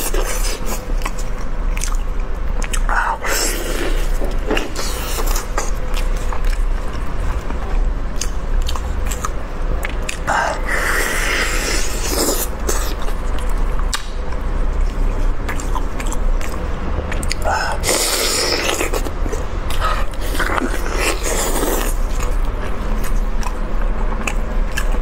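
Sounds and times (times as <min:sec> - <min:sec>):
chewing meat: 0:00.0 - 0:25.0.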